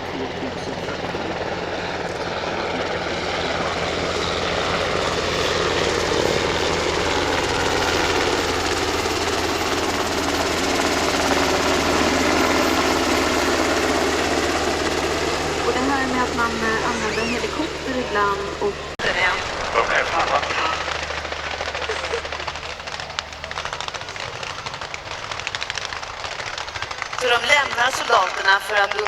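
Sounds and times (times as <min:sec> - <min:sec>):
helicopter flying: 0:00.0 - 0:29.0.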